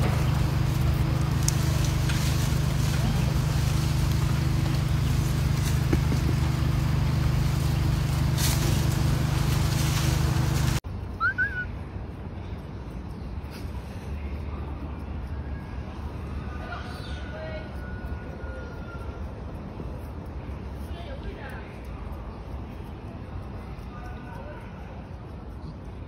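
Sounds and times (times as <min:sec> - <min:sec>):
low machine hum with hiss: 0:00.0 - 0:26.0
outdoor background: 0:00.0 - 0:26.0.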